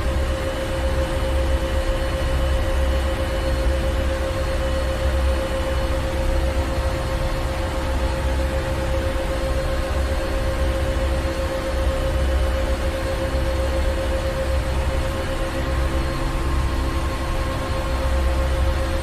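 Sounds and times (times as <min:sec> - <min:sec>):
mid-pitched machinery hum: 0:00.0 - 0:19.0.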